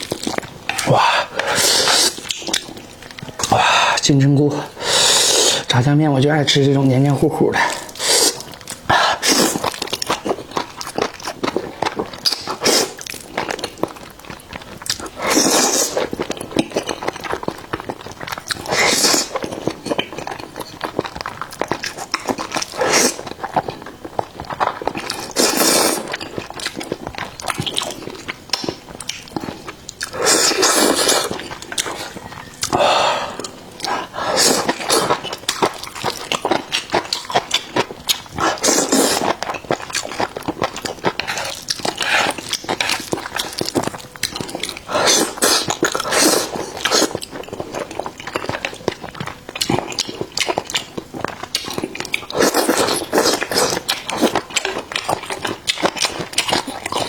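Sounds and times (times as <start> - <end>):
wet chewing and smacking: 0.0 - 4.4, 7.6 - 57.0.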